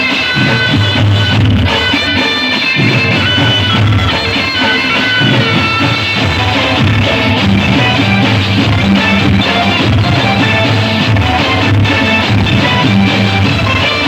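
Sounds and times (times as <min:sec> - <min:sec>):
music with repeating bass line: 0:00.0 - 0:14.0.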